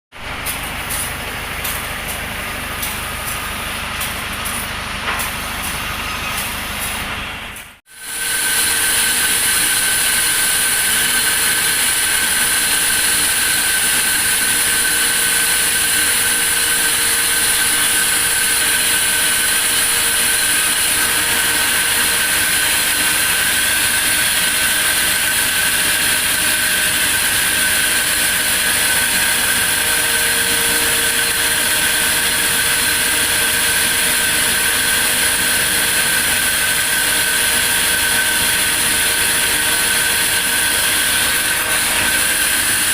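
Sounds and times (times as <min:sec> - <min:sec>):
sawmill saw whining: 0:07.9 - 0:42.9.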